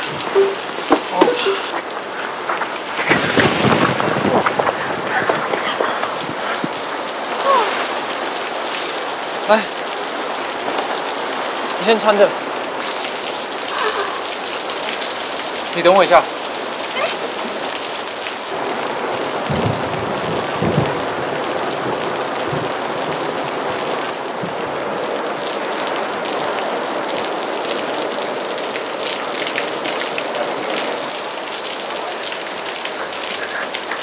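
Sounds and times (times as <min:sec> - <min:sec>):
heavy rain on street: 0:00.0 - 0:34.0.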